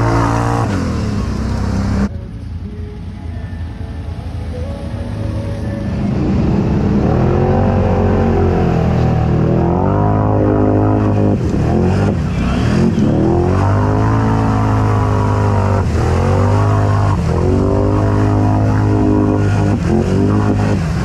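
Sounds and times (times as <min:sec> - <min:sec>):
atv engine revving: 0:00.0 - 0:02.1, 0:04.0 - 0:21.0.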